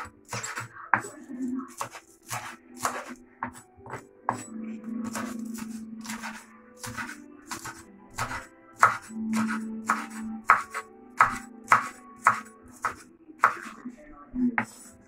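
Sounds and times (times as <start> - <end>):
knife chopping on wooden board: 0.0 - 1.1, 1.7 - 13.8, 14.6 - 14.9
background music: 0.0 - 15.0.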